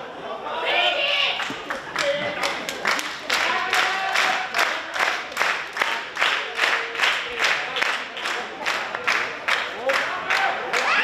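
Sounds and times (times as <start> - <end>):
crowd clapping in unison: 1.4 - 11.0.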